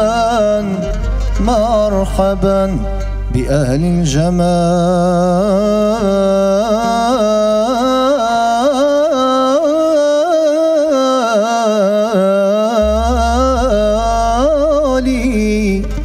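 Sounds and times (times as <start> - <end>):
man singing melisma: 0.0 - 16.0.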